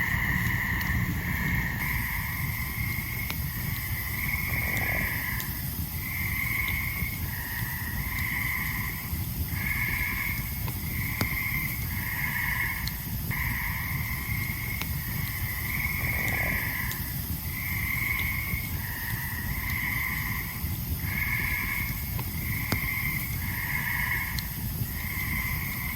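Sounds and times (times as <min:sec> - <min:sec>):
campfire crackling: 0:00.0 - 0:25.9
tree frogs trilling: 0:00.0 - 0:25.9.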